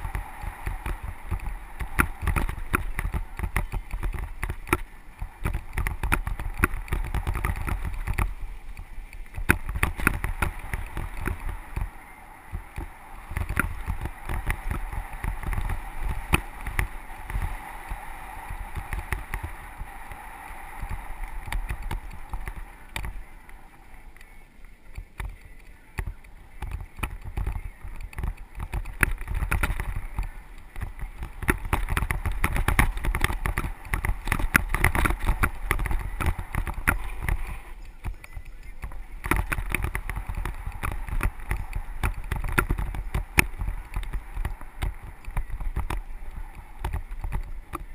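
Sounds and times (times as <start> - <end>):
bike rattling: 0.0 - 47.9
wind buffeting microphone: 0.0 - 47.9.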